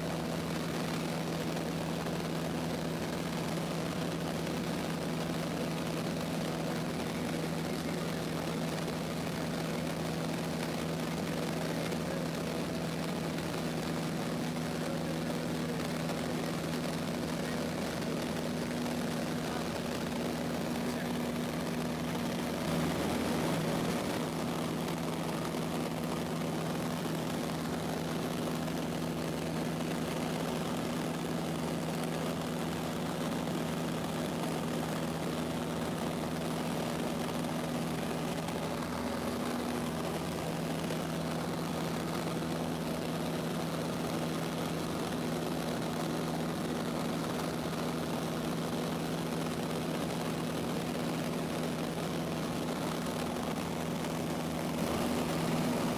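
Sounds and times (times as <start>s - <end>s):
propeller plane engine droning: 0.0s - 55.9s.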